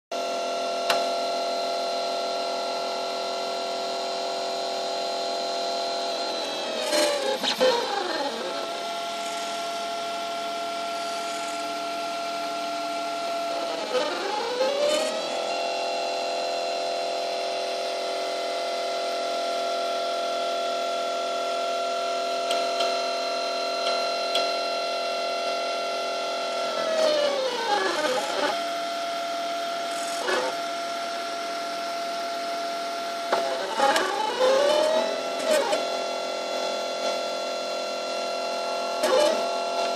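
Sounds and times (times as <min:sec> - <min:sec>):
motors and fans humming: 0:00.2 - 0:39.9
printer motors whining: 0:00.2 - 0:39.9.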